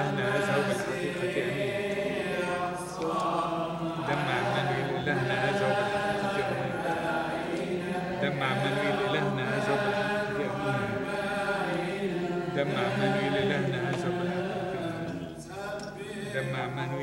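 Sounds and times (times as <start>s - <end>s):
men chanting a hymn: 0.0s - 17.0s.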